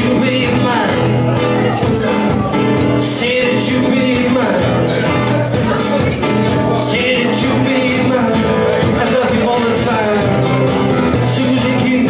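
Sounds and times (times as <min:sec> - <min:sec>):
guitar playing: 0:00.0 - 0:12.0
steady drum beat: 0:00.0 - 0:12.0.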